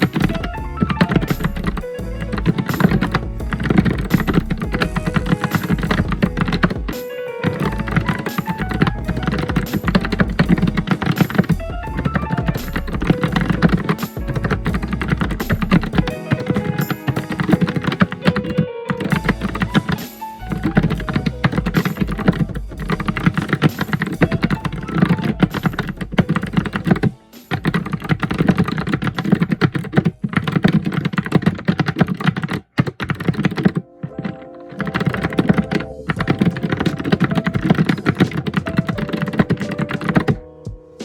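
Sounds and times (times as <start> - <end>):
fast typing on keyboard: 0.0 - 40.4.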